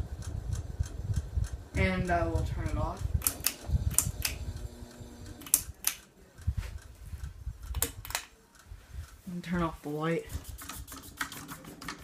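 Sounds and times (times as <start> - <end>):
ceiling fan low rumble: 0.0 - 10.3
ceiling fan clicking: 0.0 - 12.0.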